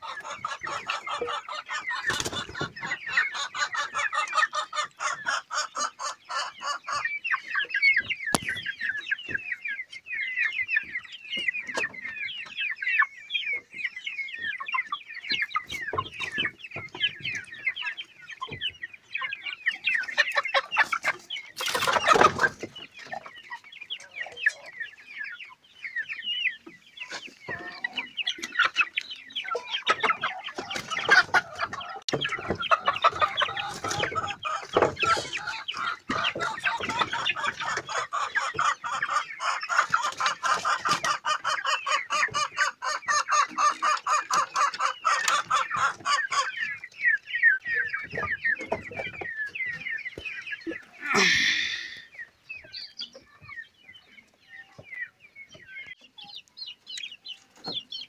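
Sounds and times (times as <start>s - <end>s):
hens clucking: 0.0s - 58.0s.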